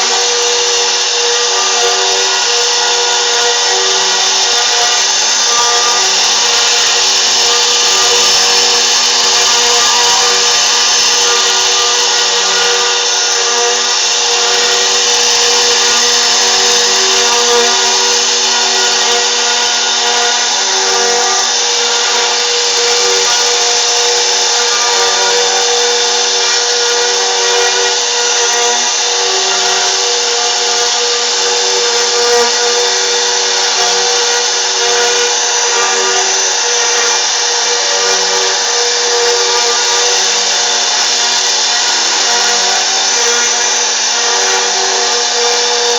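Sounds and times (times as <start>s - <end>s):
router cutting noise: 0.0s - 45.9s
router spindle whine: 0.0s - 45.9s.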